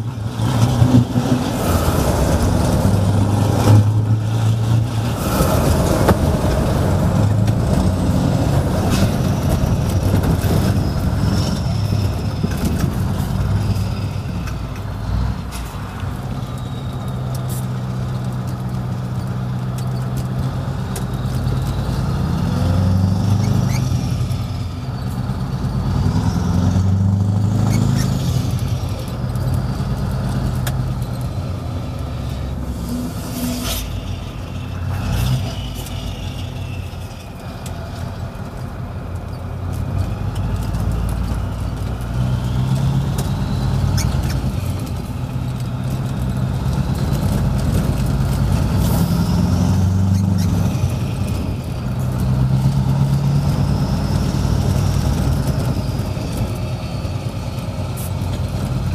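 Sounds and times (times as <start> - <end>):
truck diesel engine with loud exhaust: 0.0 - 58.9.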